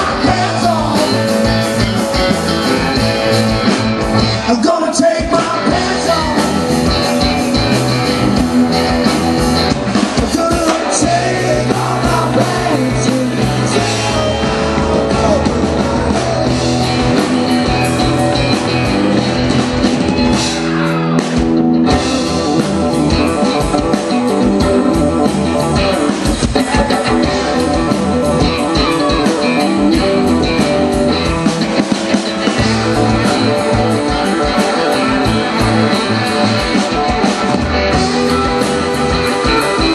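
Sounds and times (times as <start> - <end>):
drum kit steady beat: 0.0 - 39.9
electric guitars: 0.0 - 39.9.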